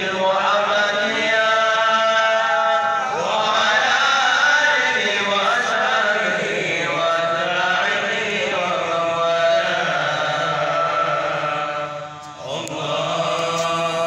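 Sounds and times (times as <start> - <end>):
man chanting into a microphone: 0.0 - 14.0.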